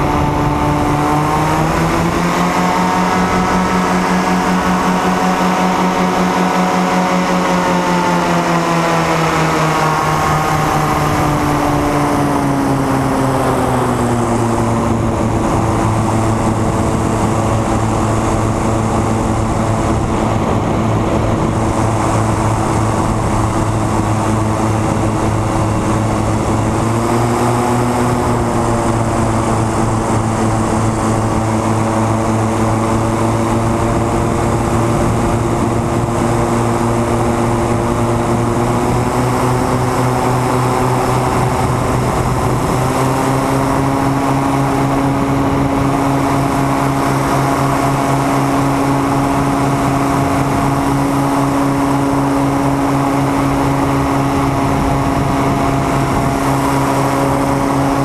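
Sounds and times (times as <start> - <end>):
propeller aircraft engine droning: 0.0 - 58.0.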